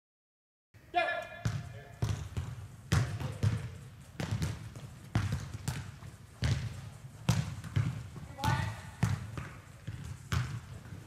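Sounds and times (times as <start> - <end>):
soccer balls kicked: 1.4 - 11.0.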